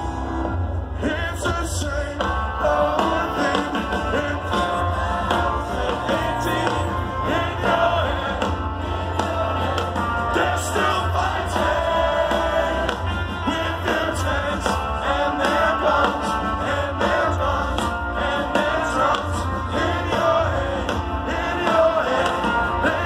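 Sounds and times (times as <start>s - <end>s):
rock band playing live: 0.0s - 23.0s
man singing: 0.9s - 23.0s.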